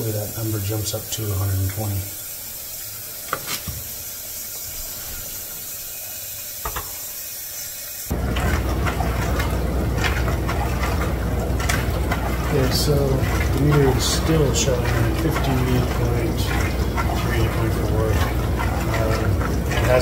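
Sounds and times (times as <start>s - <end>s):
dishwasher motor hum: 0.0s - 20.0s
water hissing: 0.0s - 20.0s
water spraying: 0.0s - 20.0s.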